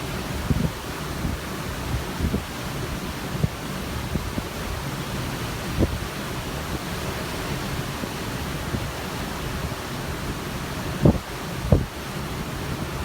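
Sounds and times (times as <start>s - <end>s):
sea wash: 0.0s - 13.0s
wind: 0.0s - 13.0s
wind buffeting microphone: 0.1s - 13.0s.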